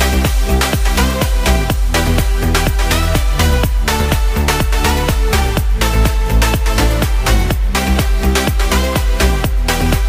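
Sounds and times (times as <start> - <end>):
upbeat electronic dance music: 0.0 - 10.0.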